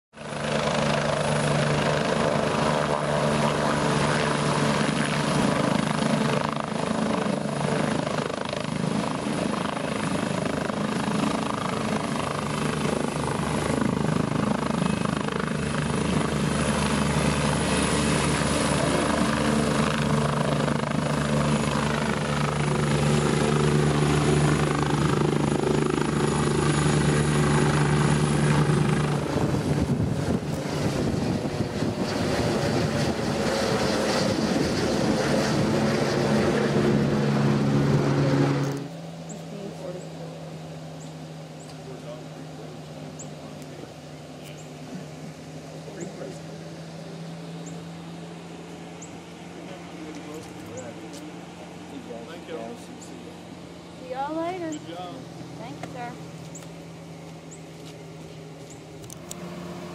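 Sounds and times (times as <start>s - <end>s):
helicopter rotor beat: 0.1s - 59.9s
high turbine whine: 0.2s - 59.9s.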